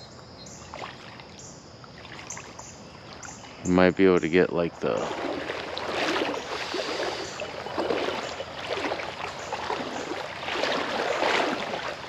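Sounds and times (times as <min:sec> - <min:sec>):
water sloshing from wading: 0:00.2 - 0:03.8, 0:04.7 - 0:12.0.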